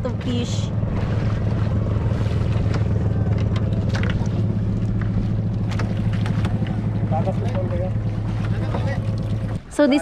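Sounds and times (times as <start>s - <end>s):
boat engine droning: 0.0s - 10.0s
knocks and splashes: 0.2s - 9.9s.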